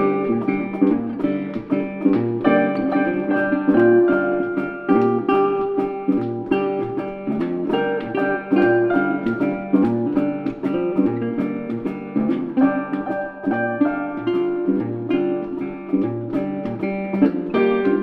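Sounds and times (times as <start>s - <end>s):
plucked acoustic guitar music: 0.0s - 18.0s.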